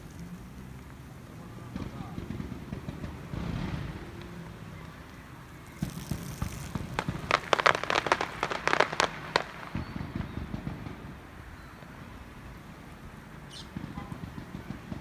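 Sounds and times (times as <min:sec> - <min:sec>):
fireworks popping and crackling: 0:00.0 - 0:15.0.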